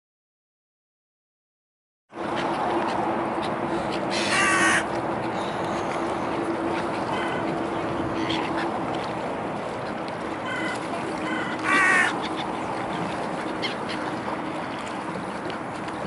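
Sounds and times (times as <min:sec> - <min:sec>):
gulls calling: 0:02.3 - 0:16.0.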